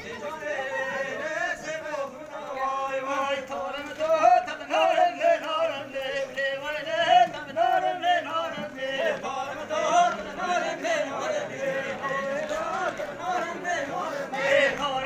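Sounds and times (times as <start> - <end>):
droning folk dance accompaniment: 0.0 - 15.0
man singing: 0.0 - 15.0.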